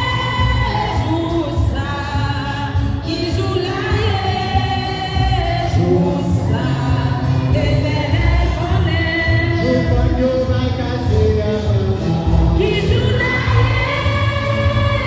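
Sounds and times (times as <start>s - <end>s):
instrumental backing with pulsing bass: 0.0s - 15.0s.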